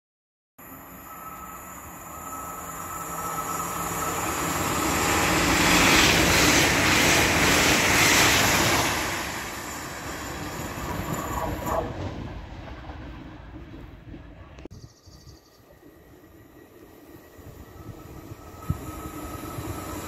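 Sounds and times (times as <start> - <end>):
passenger train passing: 0.6 - 20.0.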